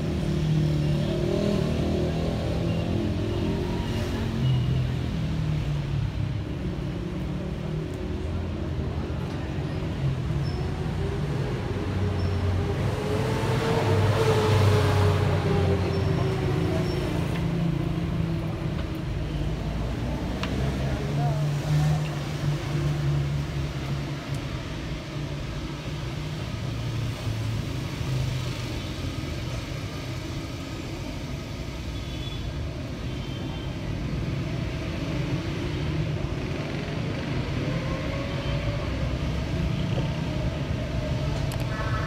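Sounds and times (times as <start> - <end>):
traffic rumble: 0.0 - 42.0.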